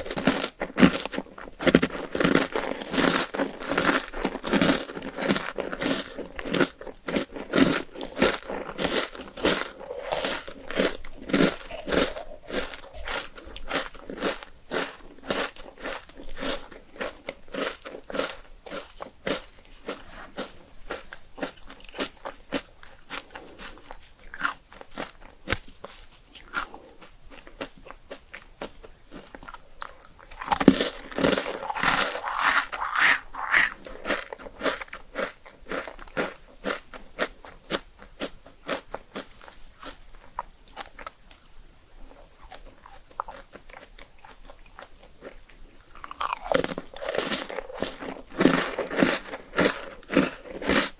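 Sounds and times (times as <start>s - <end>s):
crunching and chewing rice cakes: 0.0s - 50.9s.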